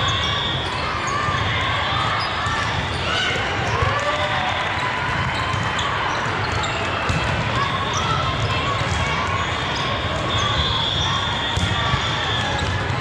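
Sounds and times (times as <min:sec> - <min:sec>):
hubbub of crowd voices: 0:00.0 - 0:13.0.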